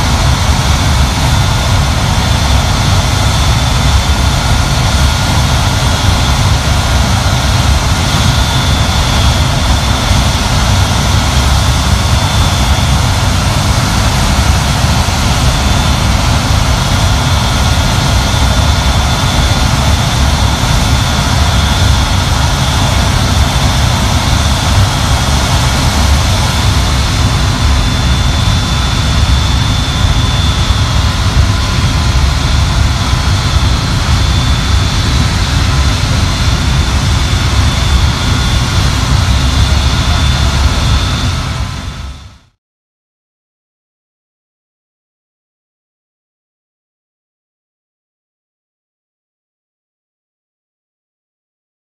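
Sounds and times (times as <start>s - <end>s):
jet engines deep rumble: 0.0s - 42.6s.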